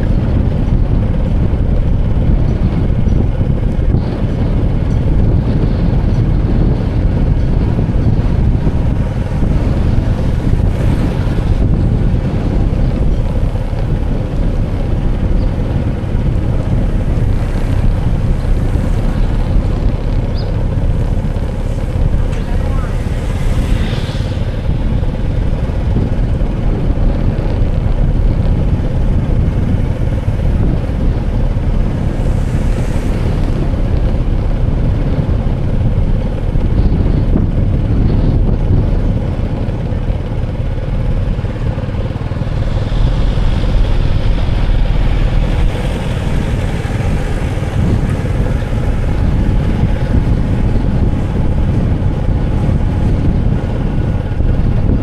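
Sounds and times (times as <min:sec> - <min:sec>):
motor vehicle rumble: 0:00.0 - 0:55.0
wind on microphone: 0:00.0 - 0:55.0.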